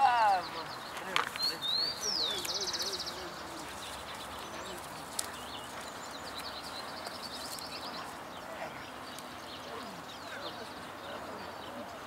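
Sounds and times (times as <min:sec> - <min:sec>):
birds chirping and trilling: 0:00.0 - 0:12.0
steady outdoor hiss: 0:00.0 - 0:12.0.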